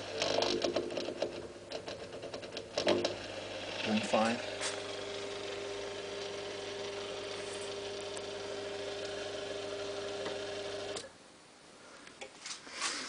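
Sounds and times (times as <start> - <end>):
electric motor and gearbox whining: 0.0 - 11.1.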